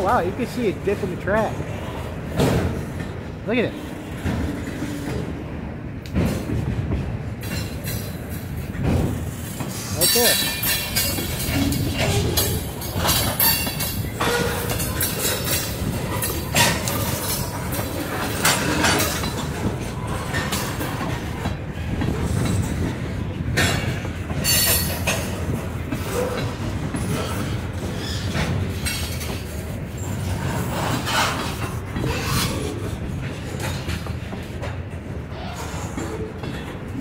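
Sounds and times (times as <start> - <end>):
steel wheels rumbling on rail: 0.0 - 37.0
wheels clacking over track: 2.3 - 37.0.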